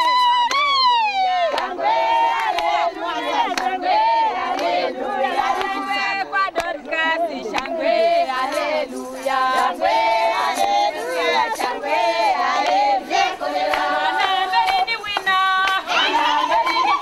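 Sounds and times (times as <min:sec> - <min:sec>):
hand claps: 0:00.0 - 0:17.0
women singing together: 0:00.0 - 0:17.0.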